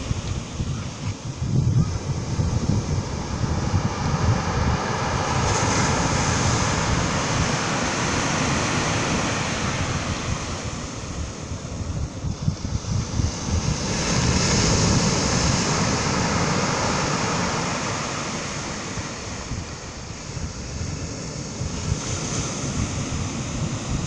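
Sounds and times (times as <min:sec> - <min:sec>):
surf washing on pebble beach: 0:00.0 - 0:11.9, 0:12.6 - 0:24.0
wind buffeting microphone: 0:00.0 - 0:24.0.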